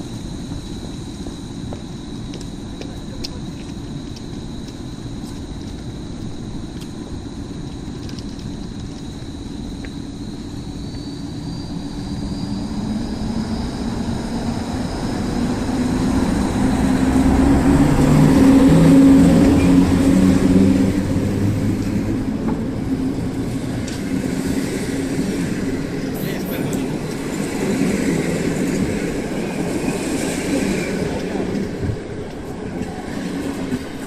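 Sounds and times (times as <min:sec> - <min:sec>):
electric locomotive rumble: 0:00.0 - 0:34.0.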